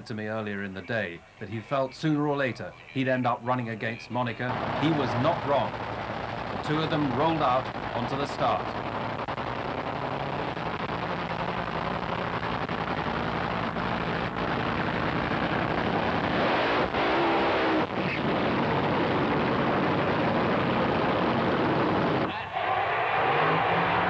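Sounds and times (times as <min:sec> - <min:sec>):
dragster engines revving: 0:04.4 - 0:24.0.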